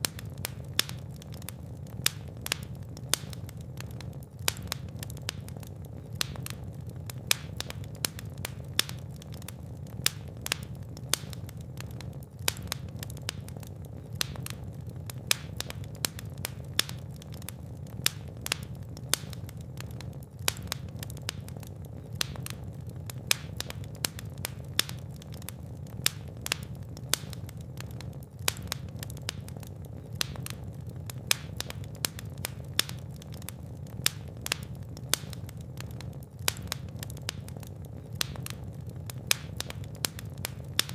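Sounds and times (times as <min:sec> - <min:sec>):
fire crackles and pops: 0:00.0 - 0:40.9
fire rumbling in fireplace: 0:00.0 - 0:40.9.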